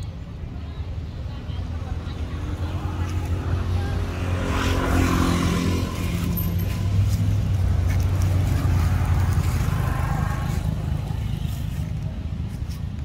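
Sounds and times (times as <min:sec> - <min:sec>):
low engine hum: 0:00.2 - 0:13.0.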